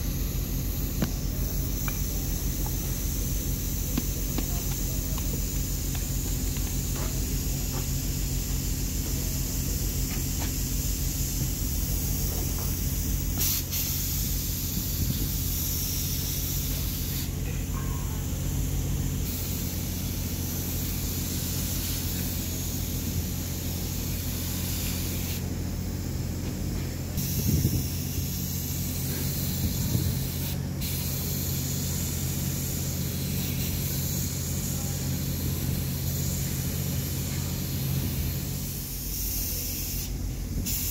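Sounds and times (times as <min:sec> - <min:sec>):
paint spray gun hissing: 0:00.0 - 0:26.4, 0:27.2 - 0:40.9
low machine hum: 0:00.0 - 0:40.9.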